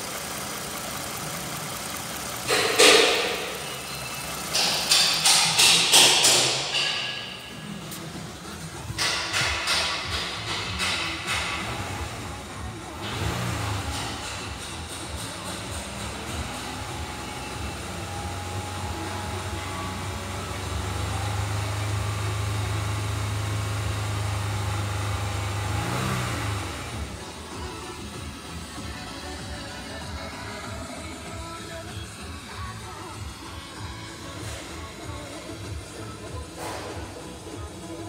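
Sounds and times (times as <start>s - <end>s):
car engine starting and running: 0.0s - 38.0s.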